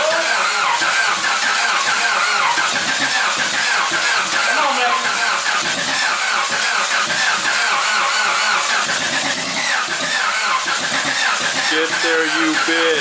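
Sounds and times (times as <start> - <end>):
starter motor cranking engine: 0.0 - 13.0.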